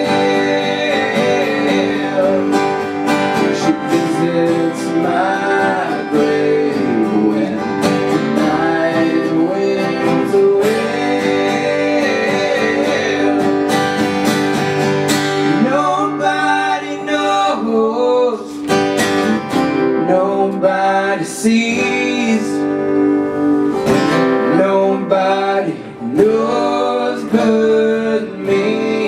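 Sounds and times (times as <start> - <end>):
band playing slow country song: 0.0 - 29.0
strummed acoustic guitar: 0.0 - 29.0.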